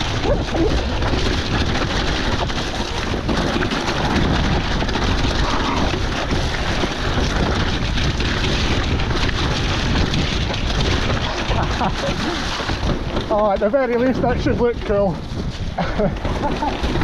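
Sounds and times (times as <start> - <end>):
bike clicks and rattles: 0.0 - 17.0
tyres on wet dirt: 0.0 - 17.0
wind on microphone: 0.0 - 17.0.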